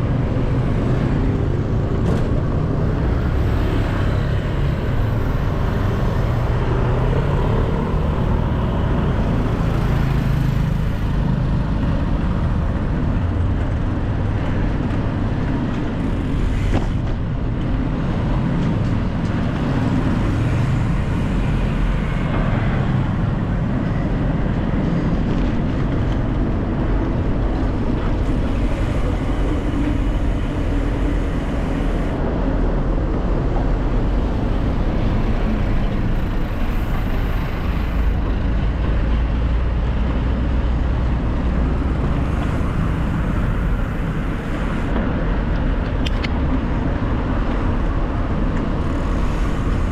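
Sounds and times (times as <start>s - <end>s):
road traffic rumbling: 0.0s - 49.9s.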